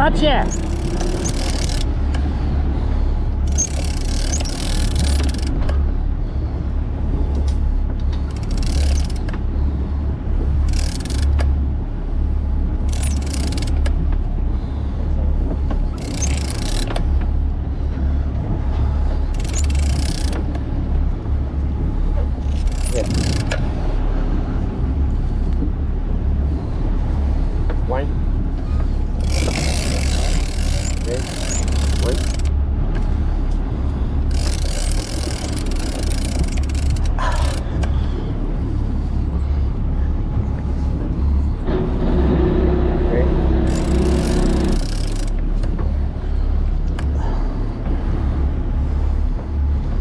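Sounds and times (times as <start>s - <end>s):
boat engine low rumble: 0.0s - 50.0s.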